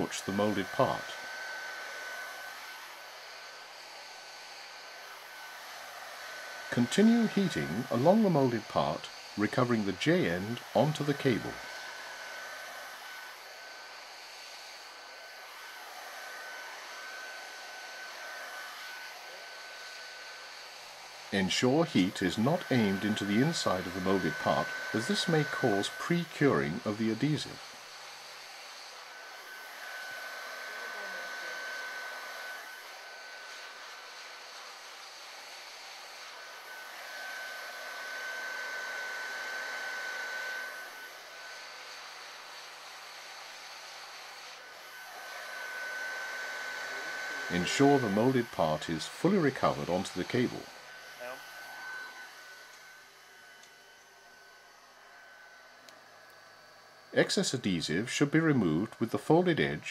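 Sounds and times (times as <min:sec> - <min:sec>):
heat gun blowing hot air: 0:00.0 - 0:59.9.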